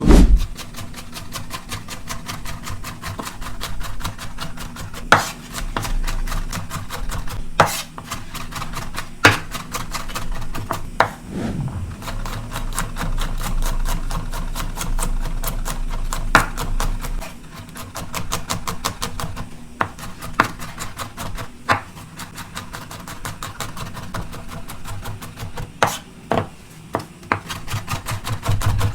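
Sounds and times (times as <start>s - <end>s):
knife chopping on cutting board: 0.0s - 11.5s, 12.2s - 28.9s.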